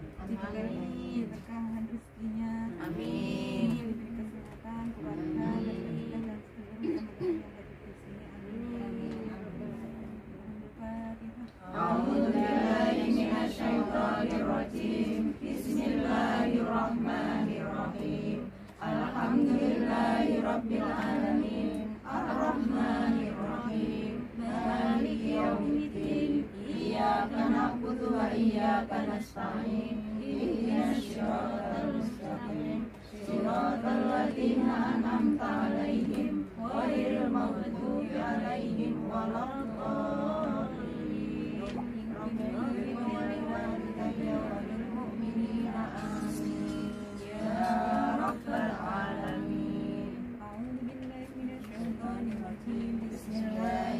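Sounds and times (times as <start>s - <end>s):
women chanting in unison: 0.0s - 6.5s, 8.4s - 53.9s.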